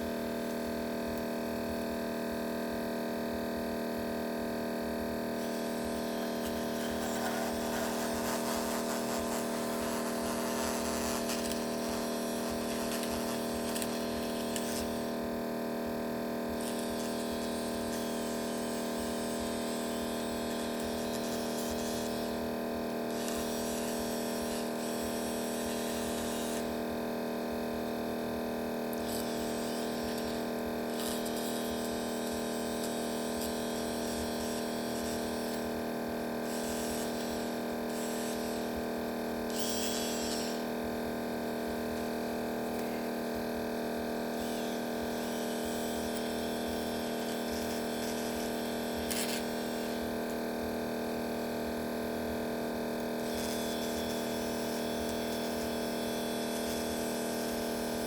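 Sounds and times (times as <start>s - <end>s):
small motor humming: 0.0s - 58.0s.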